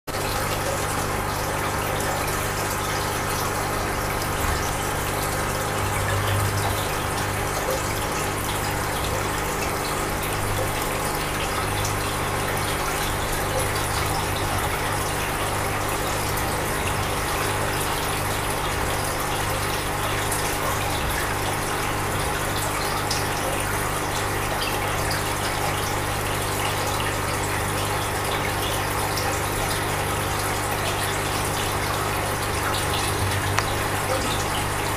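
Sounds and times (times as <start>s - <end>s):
rush of moving water: 0.1s - 34.9s
low even hum: 0.2s - 23.7s, 29.2s - 34.9s.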